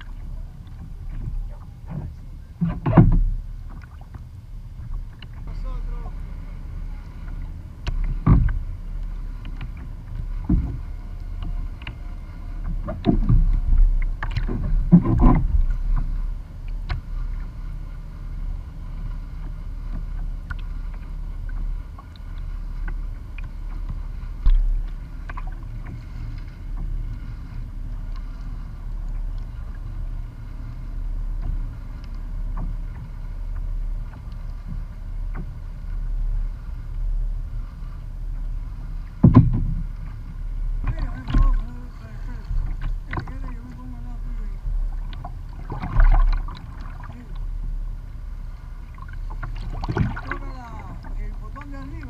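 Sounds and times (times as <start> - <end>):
steady low rumble: 0.0 - 52.0
waves lapping against kayak hull: 0.0 - 52.0.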